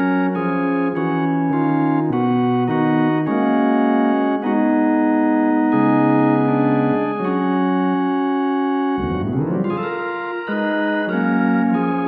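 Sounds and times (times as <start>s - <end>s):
organ playing held chords: 0.0s - 12.0s.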